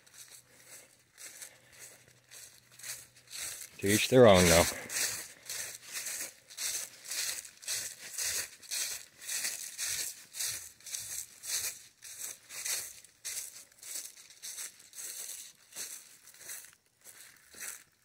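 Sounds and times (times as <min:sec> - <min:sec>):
crunching footsteps: 0:00.0 - 0:18.0.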